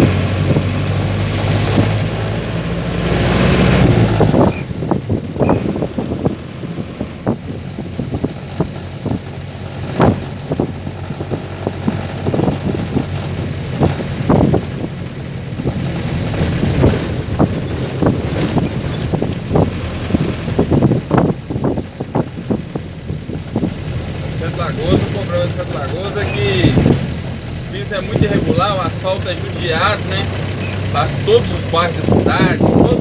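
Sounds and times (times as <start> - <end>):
bus body rattling: 0.0 - 33.0
diesel engine droning: 0.0 - 33.0.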